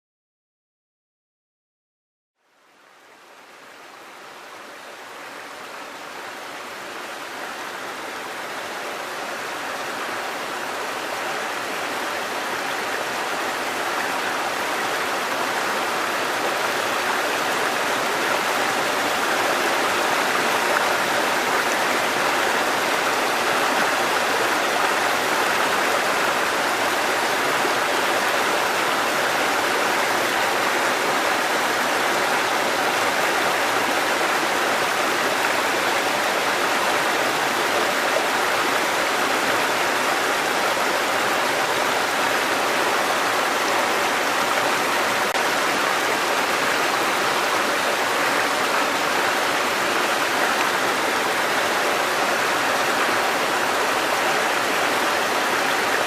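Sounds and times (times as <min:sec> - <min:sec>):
stream running over rocks: 0:02.7 - 0:56.0.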